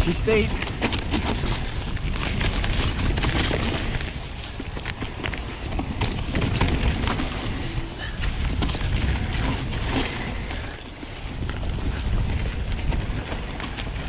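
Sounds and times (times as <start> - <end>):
bike rattling and clicking: 0.0 - 14.0
tyres rumbling over dirt: 0.0 - 14.0.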